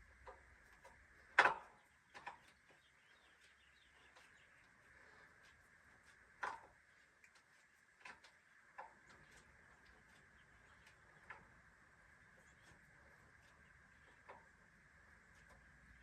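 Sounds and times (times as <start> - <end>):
faint high hum: 0.0 - 16.0.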